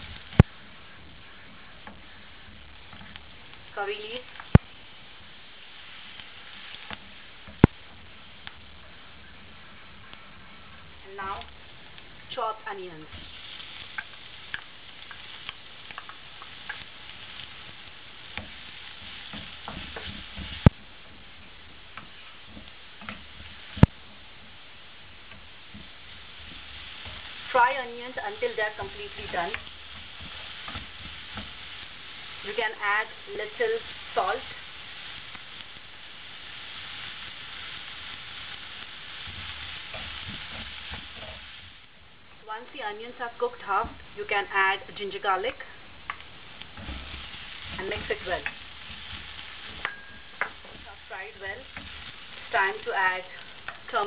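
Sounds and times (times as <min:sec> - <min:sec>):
spatula stirring and knocking pan: 0:00.0 - 0:03.7, 0:04.3 - 0:42.2, 0:43.3 - 0:54.0
onions sizzling in hot oil: 0:00.0 - 0:54.0.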